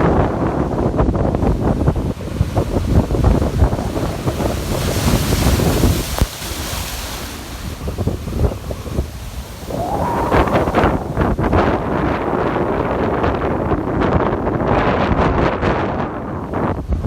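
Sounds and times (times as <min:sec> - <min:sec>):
sea waves breaking: 0:00.0 - 0:14.6
wind buffeting microphone: 0:00.0 - 0:17.0.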